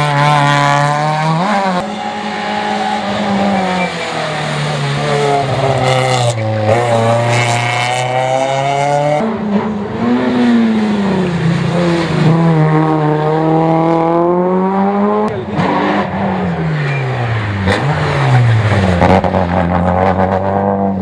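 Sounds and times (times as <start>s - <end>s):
rally car engines revving: 0.0s - 21.0s.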